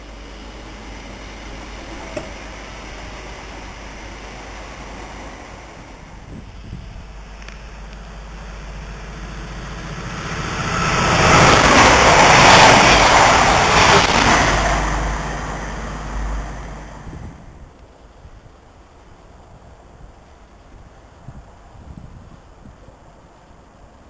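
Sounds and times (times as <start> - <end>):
passenger train passing: 0.0 - 24.0.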